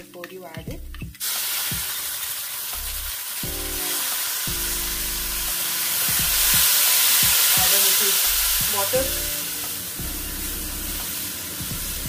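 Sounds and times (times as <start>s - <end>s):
food sizzling in a pan: 1.2s - 12.0s.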